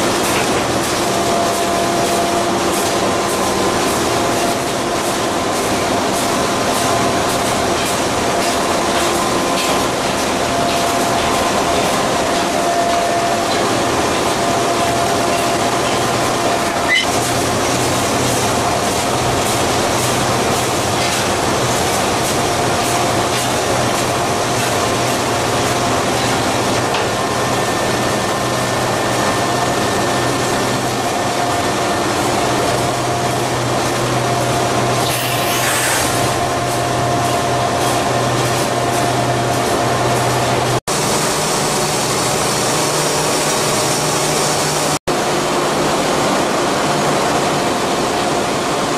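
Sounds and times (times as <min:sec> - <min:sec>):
factory machinery humming: 0:00.0 - 0:48.9.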